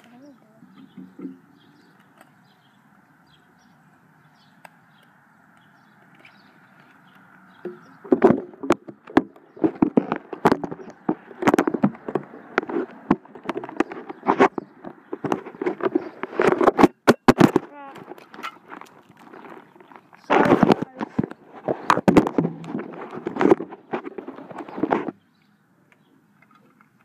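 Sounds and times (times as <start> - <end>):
faint background noise: 0.0 - 27.0.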